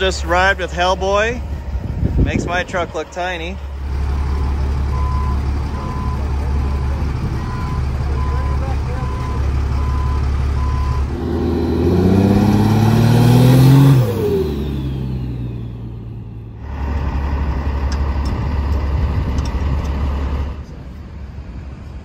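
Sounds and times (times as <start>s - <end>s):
heavy truck engines idling: 0.0s - 11.4s, 14.0s - 22.0s
truck accelerating past: 0.0s - 20.6s.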